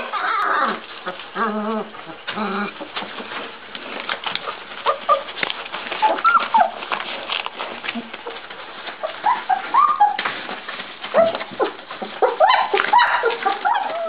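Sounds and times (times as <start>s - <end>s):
newspaper rustling: 0.0s - 14.0s
puppies whimpering and whining: 0.0s - 14.0s.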